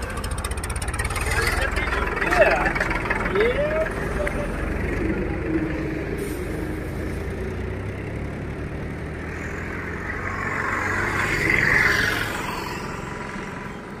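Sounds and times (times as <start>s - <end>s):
highway traffic hum: 0.0s - 14.0s
vehicle passing by: 1.0s - 14.0s.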